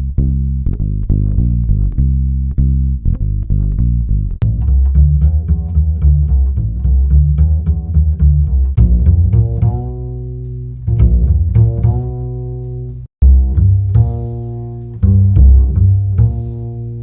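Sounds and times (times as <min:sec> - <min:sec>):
plucked bass notes: 0:00.0 - 0:17.0.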